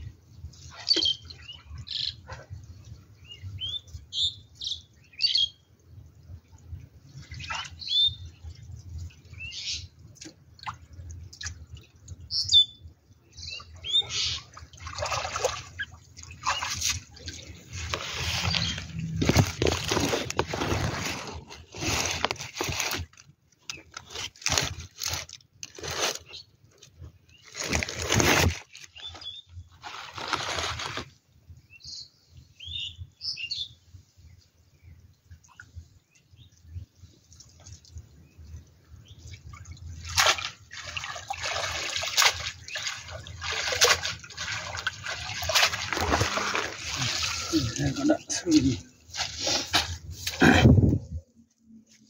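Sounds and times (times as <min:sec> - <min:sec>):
water splashing and trickling: 0:00.0 - 0:31.7, 0:33.9 - 0:52.0.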